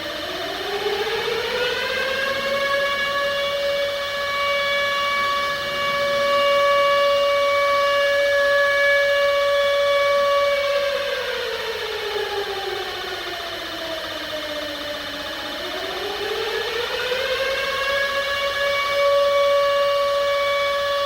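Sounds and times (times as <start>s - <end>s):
civil defence siren wailing: 0.0s - 21.0s.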